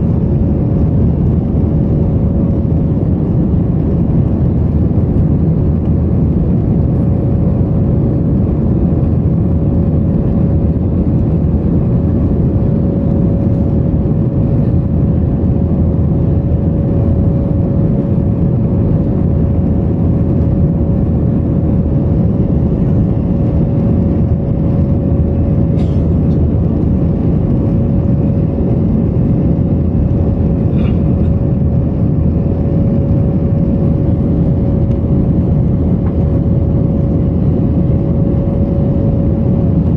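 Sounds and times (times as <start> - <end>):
jet engines and airflow roar: 0.0 - 39.9
steady whine: 0.0 - 39.9.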